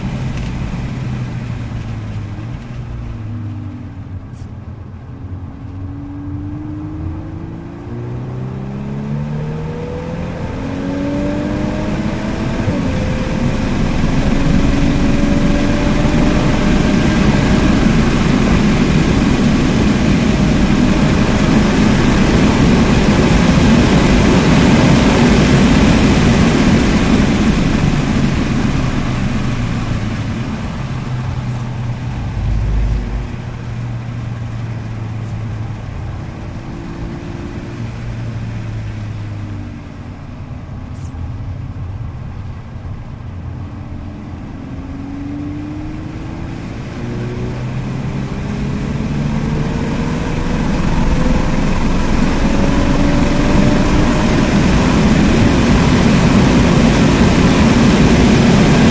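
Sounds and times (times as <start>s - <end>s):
car engine at full throttle: 0.0s - 58.9s
wind and road noise: 0.0s - 58.9s.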